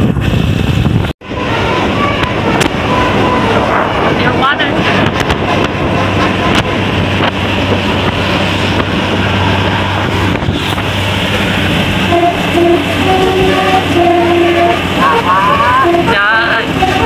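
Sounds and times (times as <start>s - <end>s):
low engine hum: 0.0s - 17.0s
road noise: 0.0s - 17.0s
wind on microphone: 0.0s - 17.0s
bus multi-tone horn tune: 1.2s - 17.0s.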